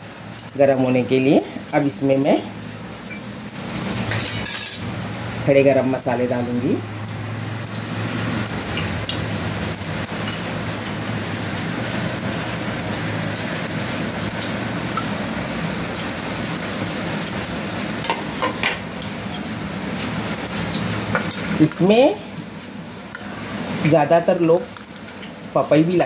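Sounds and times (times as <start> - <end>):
hot oil sizzling: 0.0 - 26.0
spices crackling in oil: 0.0 - 26.0.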